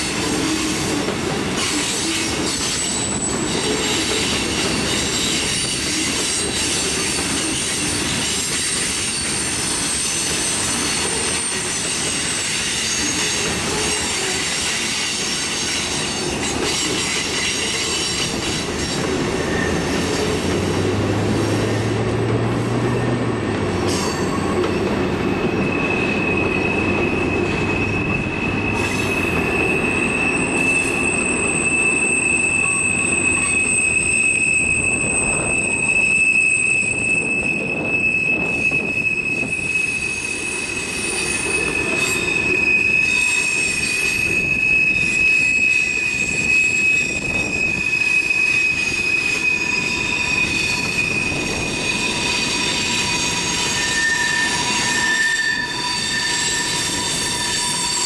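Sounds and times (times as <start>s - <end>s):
low rumble of train: 0.0s - 58.0s
steel wheels squealing on rails: 0.0s - 58.0s.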